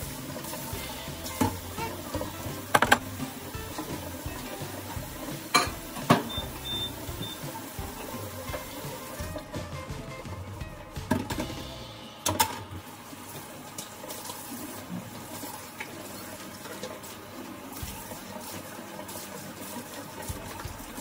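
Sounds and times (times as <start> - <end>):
washing machine filling with water: 0.0 - 21.0.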